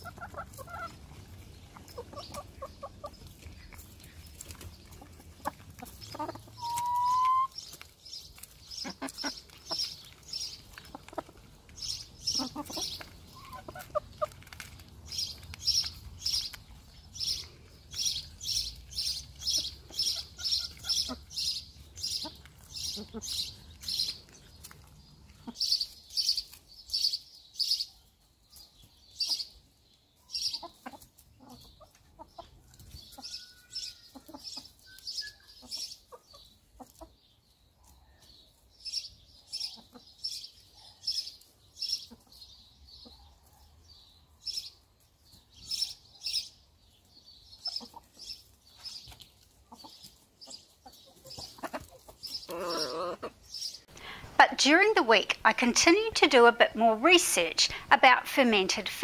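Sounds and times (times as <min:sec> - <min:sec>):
hens clucking: 0:00.0 - 0:27.0, 0:30.3 - 0:34.9, 0:35.5 - 0:37.9, 0:39.5 - 0:40.5, 0:41.4 - 0:43.3, 0:47.6 - 0:59.0
hens pecking: 0:00.0 - 0:59.0.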